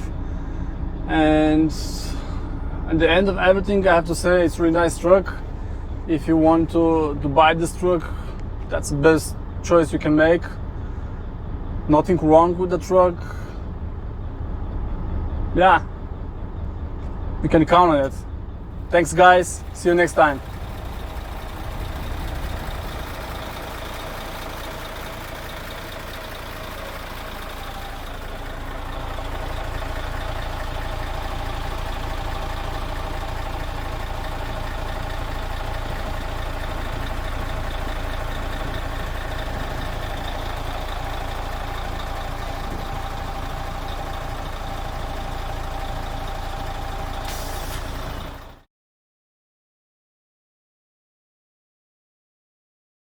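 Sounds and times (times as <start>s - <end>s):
diesel truck engine running: 0.0s - 48.7s.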